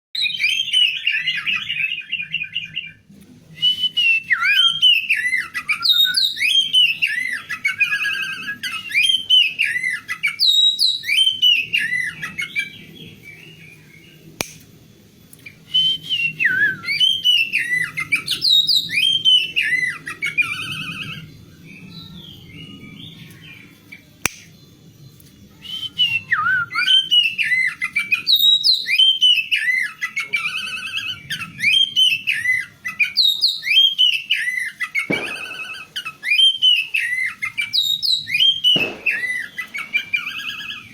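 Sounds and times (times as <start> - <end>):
bird buzzy chatter and whistles: 0.2 - 14.6, 15.4 - 40.9.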